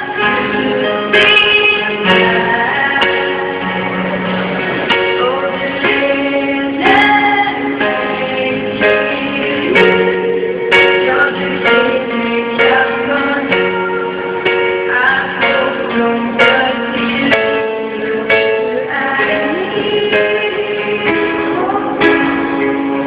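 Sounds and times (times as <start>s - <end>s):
plucked-string accompaniment: 0.0s - 23.0s
women singing into microphones: 0.0s - 23.0s.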